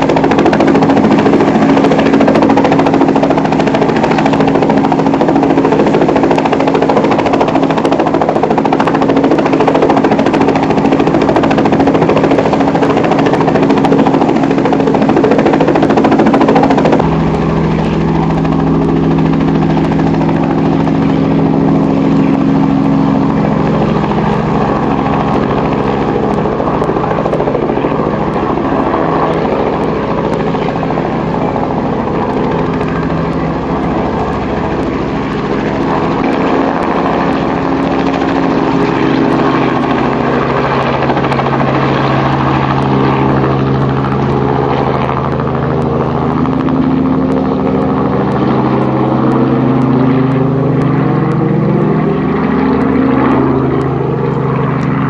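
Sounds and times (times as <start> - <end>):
helicopter engine drone: 0.0 - 55.0.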